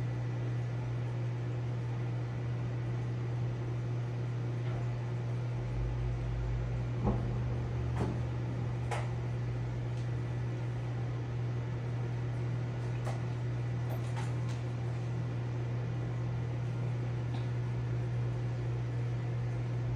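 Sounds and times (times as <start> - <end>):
aquarium equipment humming: 0.0 - 19.9.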